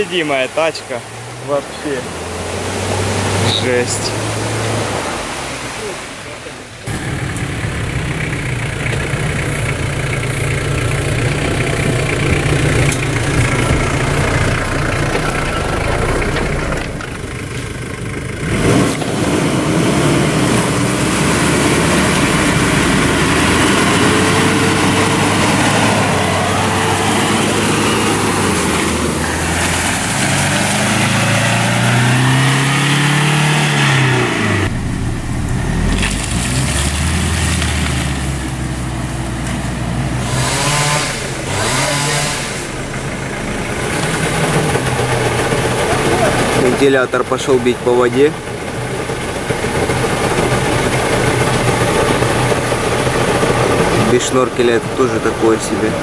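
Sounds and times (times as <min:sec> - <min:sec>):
engine revving: 0:00.0 - 0:05.8, 0:06.8 - 0:56.0
off-road engines under load: 0:00.0 - 0:56.0.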